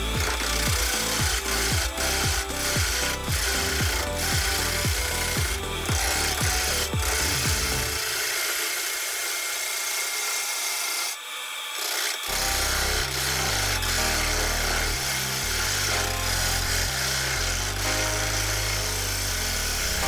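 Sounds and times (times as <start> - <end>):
gouge scraping spinning wood: 0.0 - 20.0.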